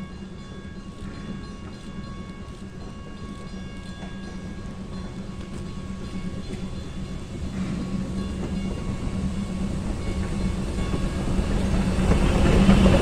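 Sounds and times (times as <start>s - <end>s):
steam locomotive running: 0.0s - 13.0s.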